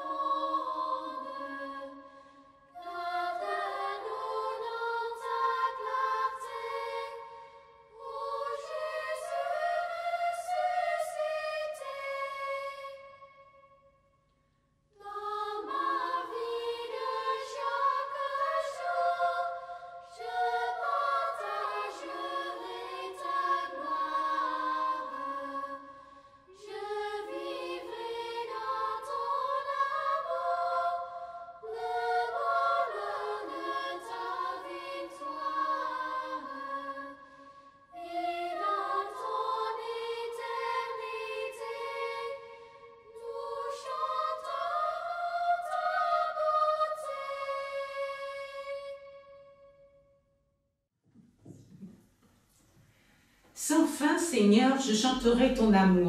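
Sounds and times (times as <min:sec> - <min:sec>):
choir singing a hymn: 0:00.0 - 0:13.4, 0:15.0 - 0:49.6.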